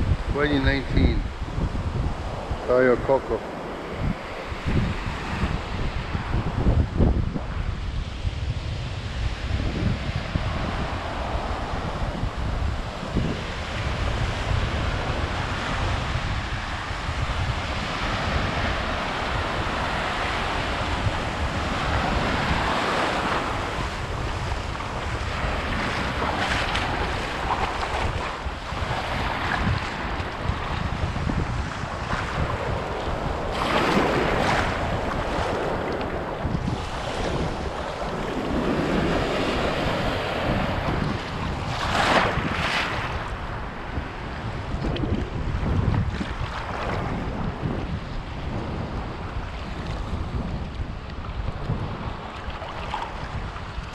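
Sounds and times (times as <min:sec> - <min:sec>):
small waves washing on shore: 0:00.0 - 0:53.9
wind buffeting microphone: 0:00.0 - 0:53.9.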